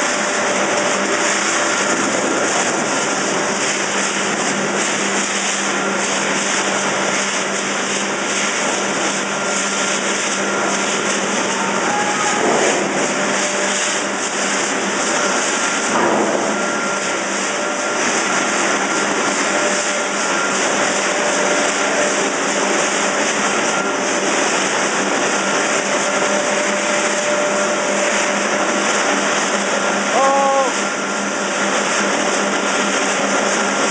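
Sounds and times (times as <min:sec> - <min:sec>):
factory machinery running: 0:00.0 - 0:33.9.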